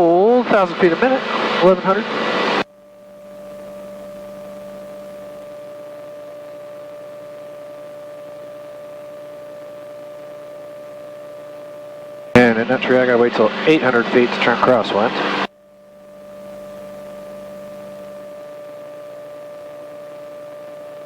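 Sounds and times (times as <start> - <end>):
electrical hum with high whine: 0.0 - 21.0.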